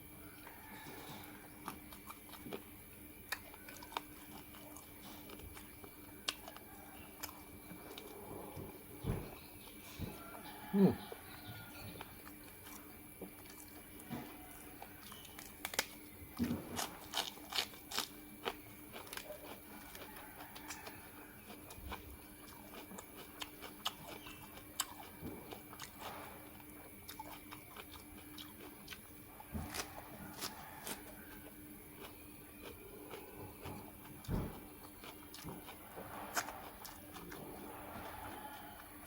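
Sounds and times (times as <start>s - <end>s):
person chewing crunchy food: 0.0s - 39.0s.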